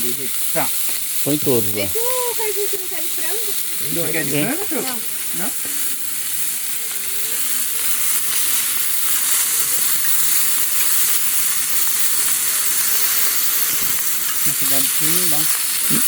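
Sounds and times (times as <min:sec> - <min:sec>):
patties sizzling in a pan: 0:00.0 - 0:16.0.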